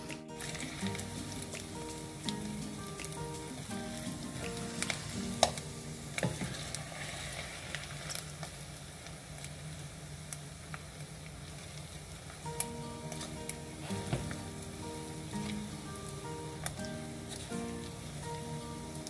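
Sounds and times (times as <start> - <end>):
skins sizzling in fat: 0.0 - 19.0.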